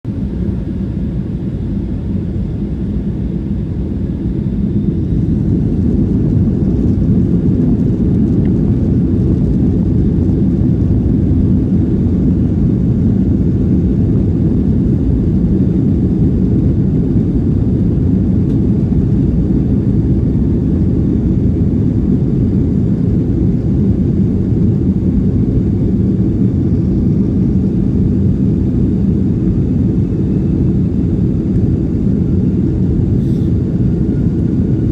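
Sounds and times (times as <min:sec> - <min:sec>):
jet airliner taking off: 0:00.1 - 0:34.9.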